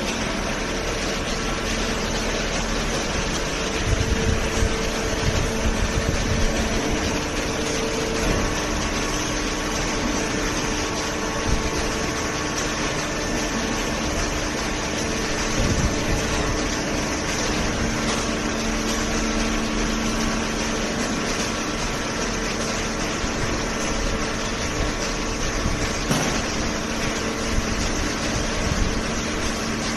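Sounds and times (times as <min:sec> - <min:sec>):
hydraulic machine hum: 0:00.0 - 0:29.9.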